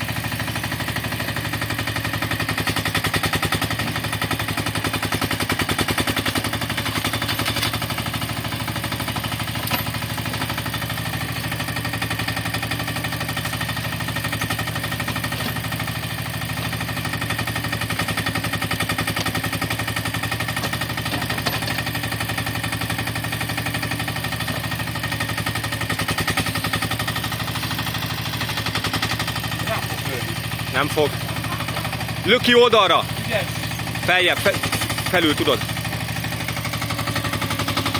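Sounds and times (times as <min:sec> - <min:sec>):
small engine chugging: 0:00.0 - 0:37.9.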